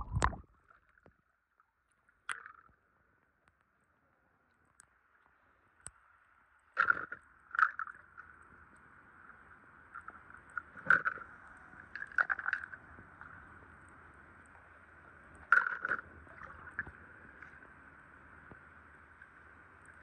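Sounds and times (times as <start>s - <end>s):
pool water gurgling: 0.0s - 3.2s, 3.9s - 20.0s.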